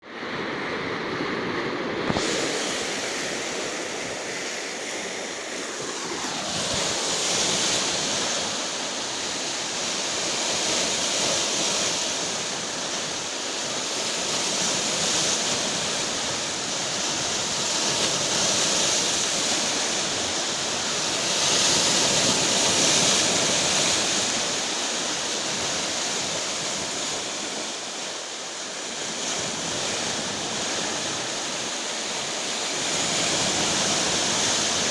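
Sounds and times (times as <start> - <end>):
sea surf breaking on shore: 0.0 - 34.9.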